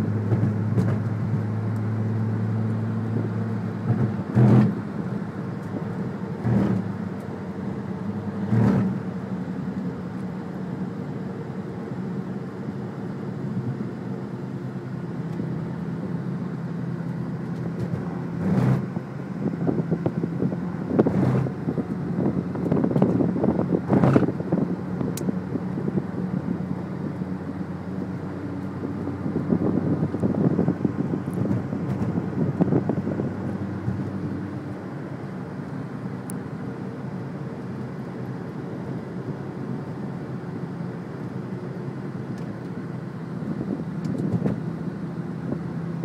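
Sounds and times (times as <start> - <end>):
car engine hum and road noise: 0.0 - 46.0.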